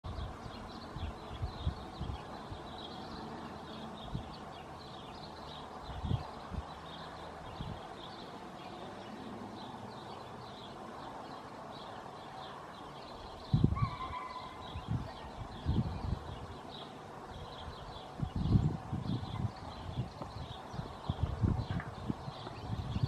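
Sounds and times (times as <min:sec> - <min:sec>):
small birds chirping: 0:00.1 - 0:23.0.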